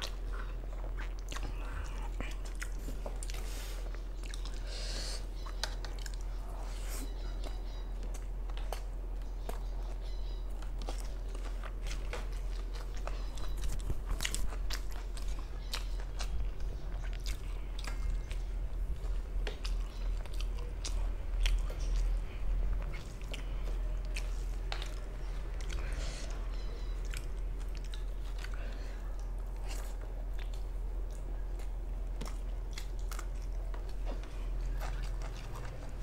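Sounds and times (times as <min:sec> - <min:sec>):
close chewing with mouth clicks: 0:00.0 - 0:36.0
steady low hum: 0:00.0 - 0:36.0.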